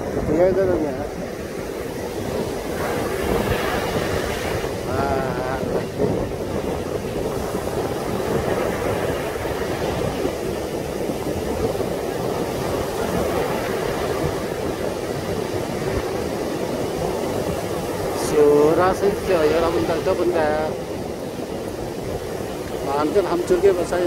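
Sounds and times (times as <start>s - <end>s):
heavy surf breaking on beach: 0.0s - 24.0s
wind buffeting microphone: 0.0s - 24.0s.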